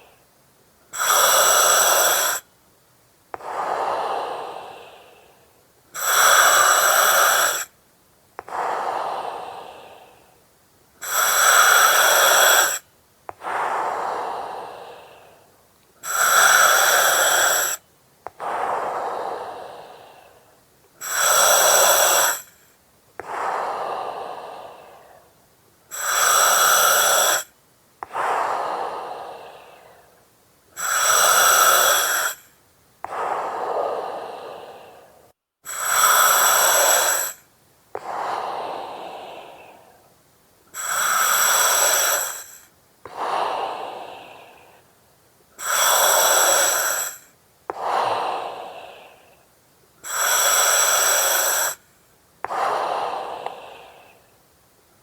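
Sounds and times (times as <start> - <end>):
breathing through oxygen mask: 0.9 - 2.4, 3.4 - 7.7, 11.0 - 30.2, 30.8 - 40.1, 40.7 - 44.9, 45.6 - 54.3
mask regulator hiss: 0.9 - 2.5, 5.9 - 7.8, 11.0 - 25.2, 25.9 - 30.0, 30.7 - 40.0, 40.7 - 44.8, 45.6 - 54.4.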